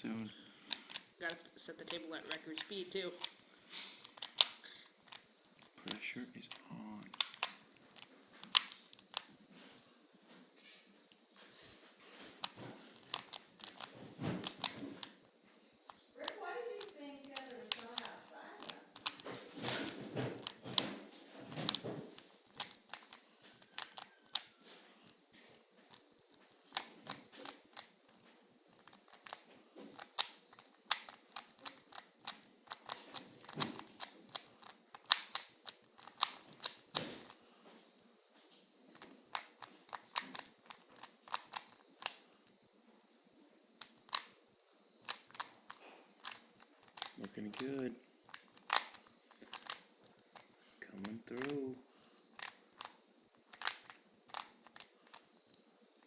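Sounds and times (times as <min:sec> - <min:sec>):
puzzle cube plastic clicks: 0:00.7 - 0:09.5, 0:12.2 - 0:37.4, 0:38.9 - 0:42.6, 0:43.8 - 0:44.4, 0:45.0 - 0:56.0.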